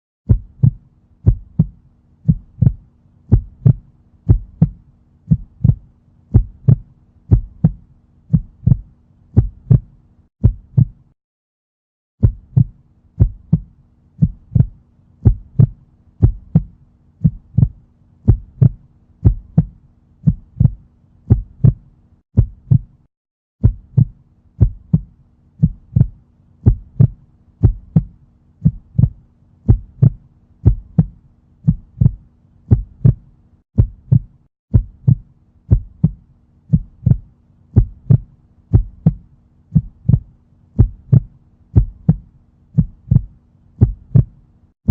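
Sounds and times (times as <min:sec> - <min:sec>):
heartbeat lub-dub: 0:00.3 - 0:11.1, 0:12.2 - 0:44.9.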